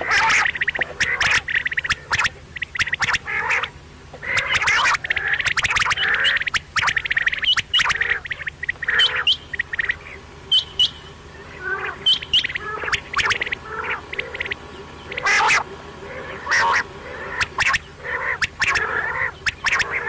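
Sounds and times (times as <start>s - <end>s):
quails calling: 0.0s - 20.0s.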